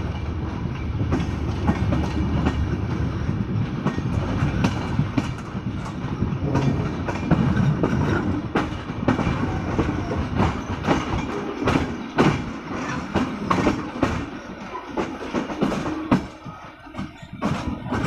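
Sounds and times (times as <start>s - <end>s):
train wheels rumbling on rails: 0.0s - 18.0s
wheels clacking over rail joints: 0.0s - 18.0s.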